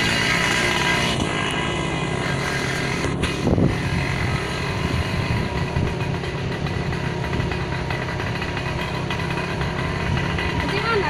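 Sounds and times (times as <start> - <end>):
scooter engines running: 0.0 - 11.0.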